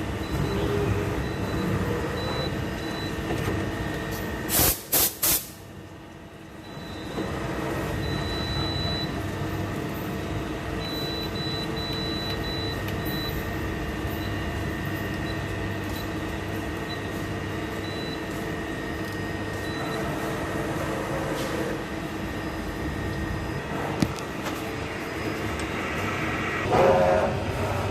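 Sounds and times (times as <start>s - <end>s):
machine drilling hum and whine: 0.0s - 4.5s, 6.2s - 27.9s.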